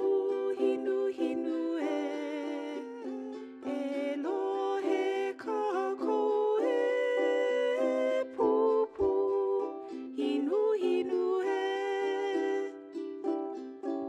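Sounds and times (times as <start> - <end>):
person singing long wavering notes: 0.0 - 13.2
ukulele accompaniment: 0.0 - 14.0.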